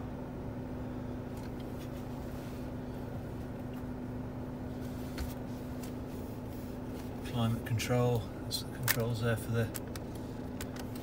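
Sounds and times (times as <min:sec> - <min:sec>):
car cabin low hum: 0:00.0 - 0:11.0.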